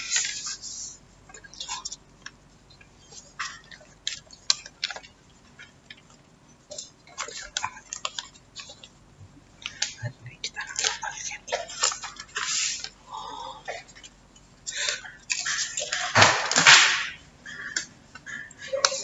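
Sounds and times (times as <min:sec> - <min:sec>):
paper banknotes crinkling: 0:00.0 - 0:09.0, 0:09.6 - 0:13.0, 0:13.7 - 0:19.0.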